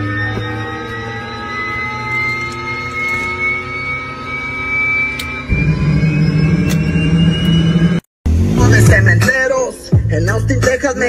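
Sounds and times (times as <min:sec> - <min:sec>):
deeper engine hum: 0:00.0 - 0:11.0
engine hum with rising whine: 0:00.0 - 0:11.0.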